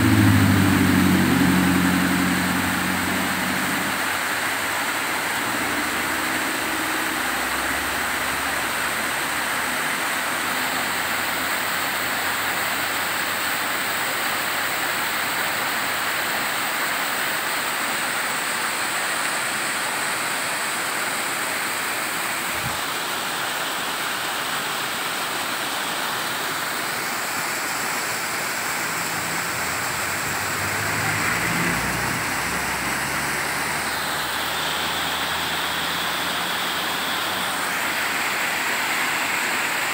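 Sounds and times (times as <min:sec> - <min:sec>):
waterfall splashing on rock: 0:00.1 - 0:39.9.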